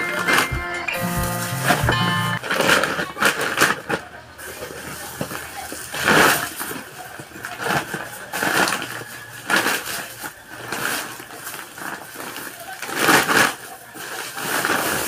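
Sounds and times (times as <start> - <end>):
plastic sack rustling: 0.0 - 15.0.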